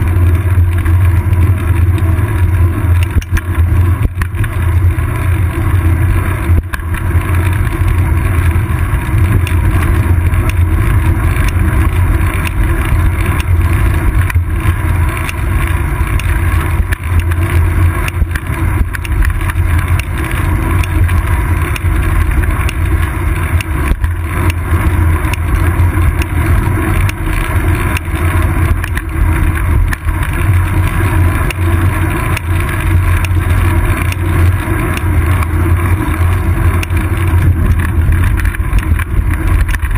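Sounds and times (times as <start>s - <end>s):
bicycle road vibration: 0.0s - 39.9s
wind rumble: 0.0s - 39.9s.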